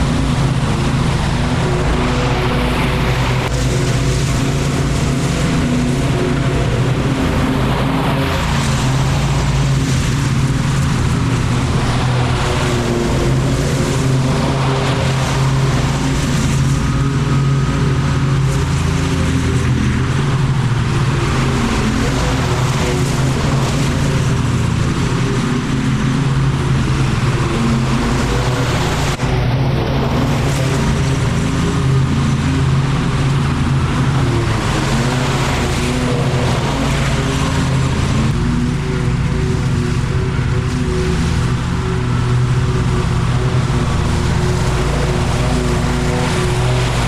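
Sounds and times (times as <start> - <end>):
lawn mower engine running: 0.0 - 47.0.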